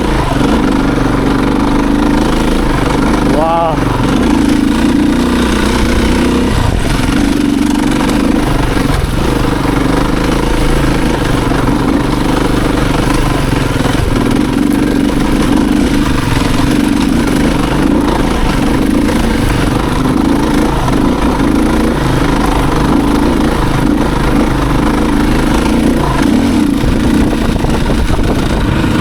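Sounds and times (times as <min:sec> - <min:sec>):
motorcycle engine climbing hill: 0:00.0 - 0:29.0.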